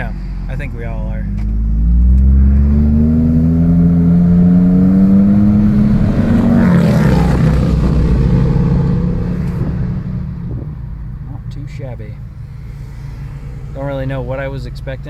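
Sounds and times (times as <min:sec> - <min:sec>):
truck engine accelerating: 0:00.0 - 0:15.0.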